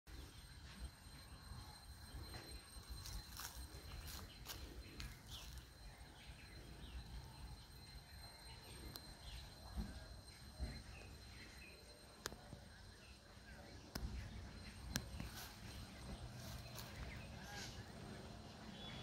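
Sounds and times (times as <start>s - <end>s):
faint bird chirps: 0.1s - 19.0s.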